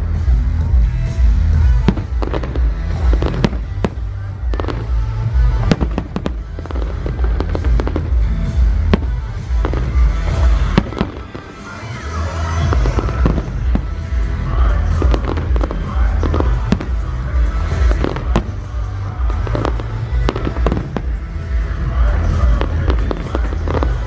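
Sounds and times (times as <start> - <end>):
fireworks crackling: 0.0 - 24.0
show music with heavy bass: 0.0 - 24.0
fireworks bangs: 1.6 - 24.0.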